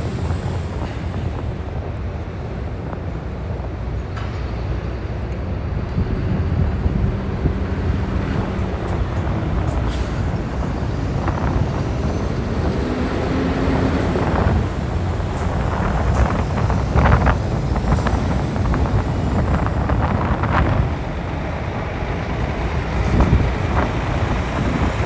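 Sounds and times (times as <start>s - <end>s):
diesel truck engines rumbling: 0.0s - 25.0s.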